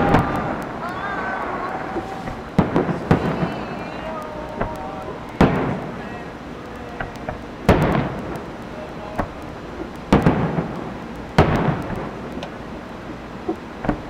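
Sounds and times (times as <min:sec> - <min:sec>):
fireworks booms: 0:00.0 - 0:14.0
small fireworks pops: 0:00.0 - 0:14.0.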